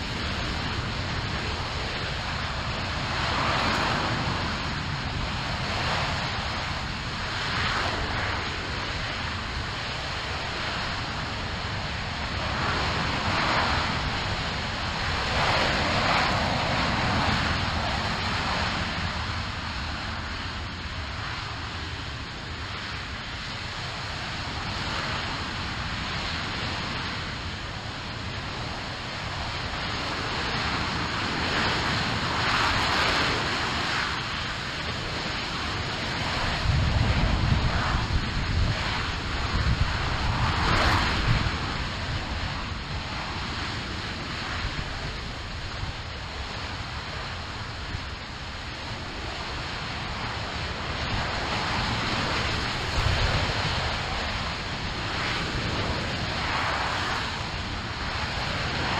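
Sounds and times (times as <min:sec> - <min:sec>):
rocket engine roaring: 0:00.0 - 0:58.9.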